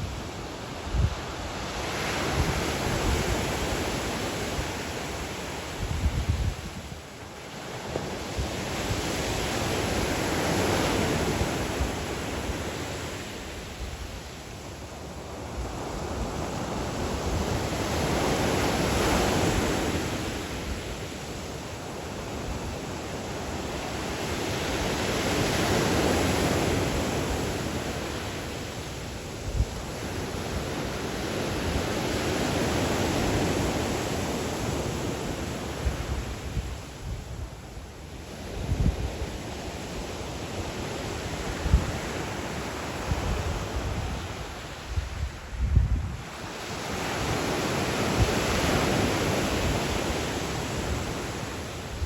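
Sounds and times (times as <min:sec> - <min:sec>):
waves washing onto shore: 0:00.0 - 0:52.0.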